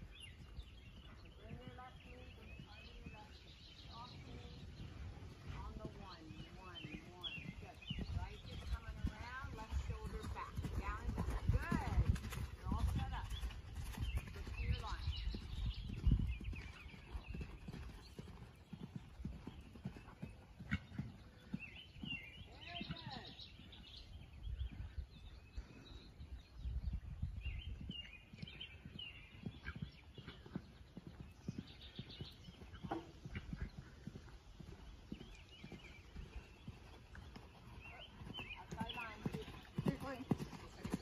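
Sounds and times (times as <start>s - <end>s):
horse hooves cantering on sand: 0.4s - 24.0s, 27.9s - 41.0s.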